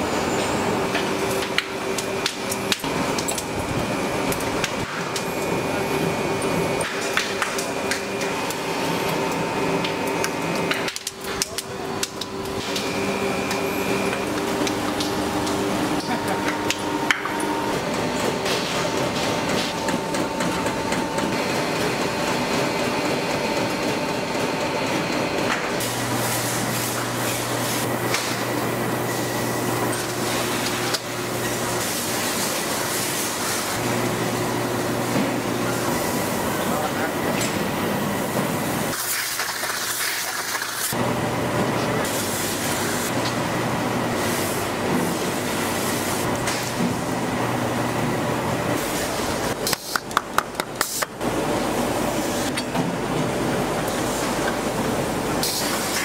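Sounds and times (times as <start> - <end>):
factory machinery humming: 0.0 - 56.0.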